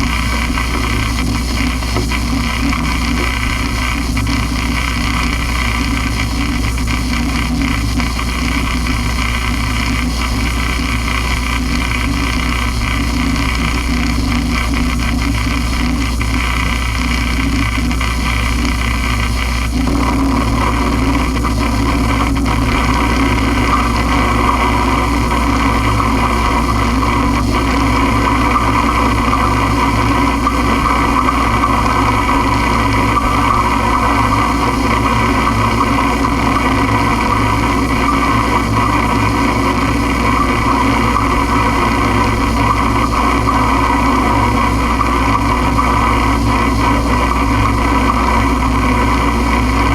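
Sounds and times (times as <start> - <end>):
droning noise music: 0.0 - 49.9.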